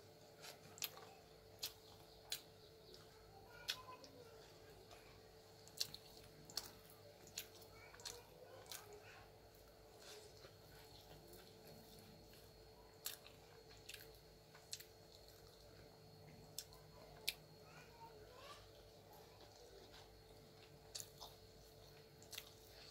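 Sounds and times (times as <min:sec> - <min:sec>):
faint steady hum: 0:00.0 - 0:22.9
chewing with wet mouth clicks: 0:00.4 - 0:17.5, 0:19.4 - 0:22.9.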